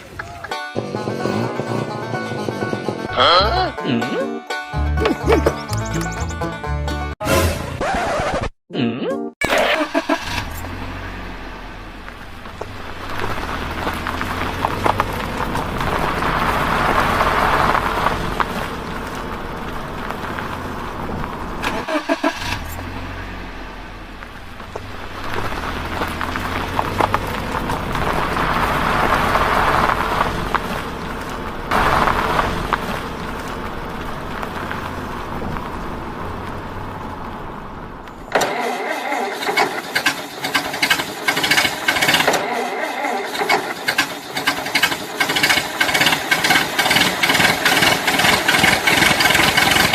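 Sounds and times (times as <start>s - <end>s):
vehicle engine humming: 0.0s - 8.0s, 9.9s - 49.9s.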